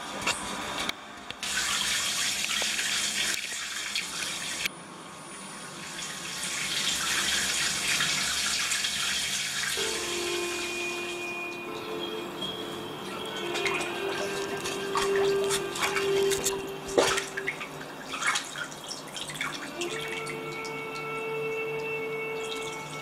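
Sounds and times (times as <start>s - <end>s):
water running from tap: 1.4s - 4.7s, 5.6s - 23.0s.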